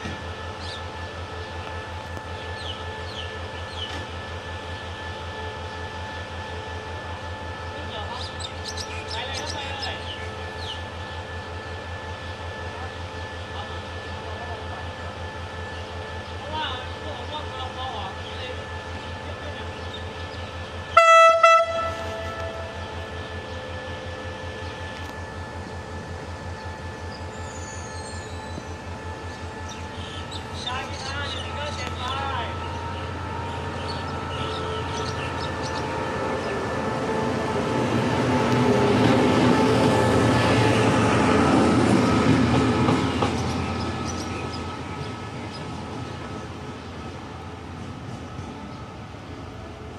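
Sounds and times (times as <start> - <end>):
diesel locomotive low throb: 0.0 - 49.9.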